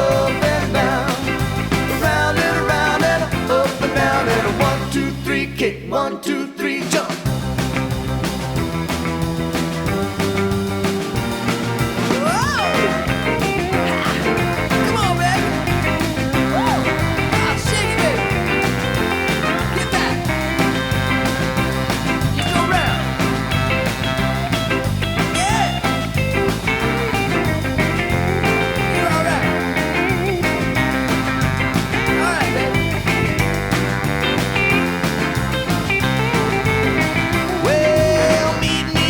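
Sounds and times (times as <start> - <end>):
rock and roll backing track: 0.0 - 5.8, 6.8 - 39.0.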